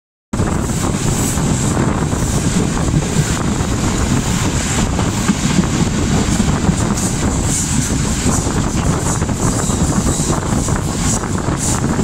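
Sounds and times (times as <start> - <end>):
train wheels rumbling on rails: 0.4 - 12.0
wind buffeting microphone: 0.4 - 12.0.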